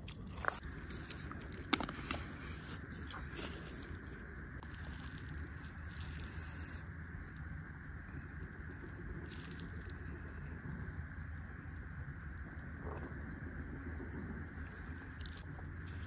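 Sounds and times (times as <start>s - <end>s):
faint background hum: 0.0s - 16.0s.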